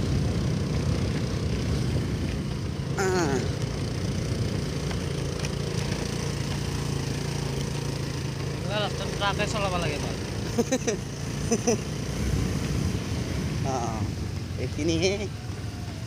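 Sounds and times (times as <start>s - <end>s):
road and wind noise: 0.0s - 16.0s
scooter engine running: 0.0s - 16.0s.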